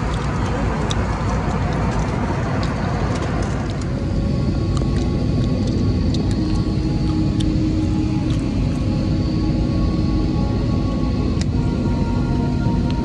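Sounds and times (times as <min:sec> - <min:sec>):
airliner engine rumble in cabin: 0:00.0 - 0:13.0
steady hum: 0:00.0 - 0:13.0.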